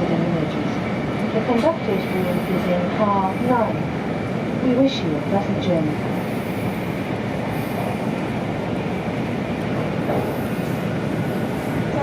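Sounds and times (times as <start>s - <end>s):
train cabin rushing rumble: 0.0s - 12.0s.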